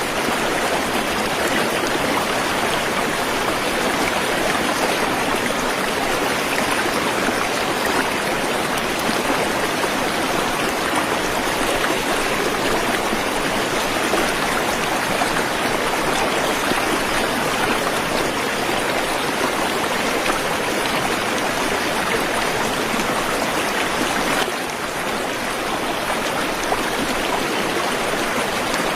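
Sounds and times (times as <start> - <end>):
waterfall water rushing: 0.0 - 28.9.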